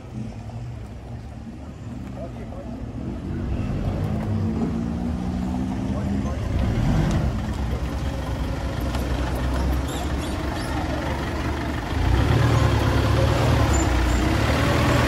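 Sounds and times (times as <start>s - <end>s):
pickup truck engine and road rumble: 0.0s - 15.0s.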